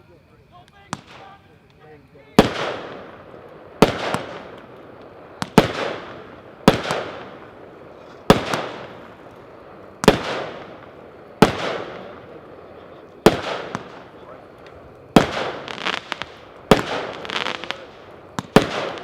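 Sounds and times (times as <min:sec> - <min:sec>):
firework shells bursting: 0:00.6 - 0:19.0.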